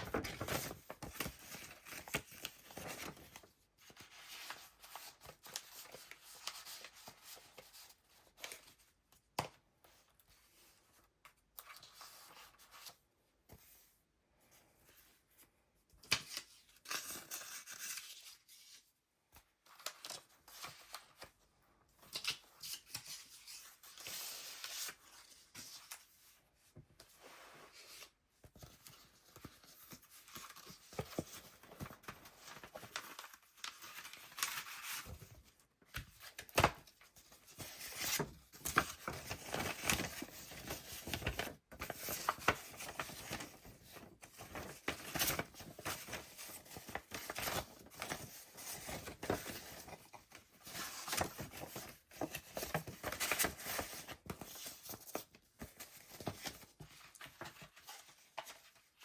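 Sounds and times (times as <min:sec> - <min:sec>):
paper pages rustling and crackling: 0:00.0 - 0:13.9, 0:22.0 - 0:59.0.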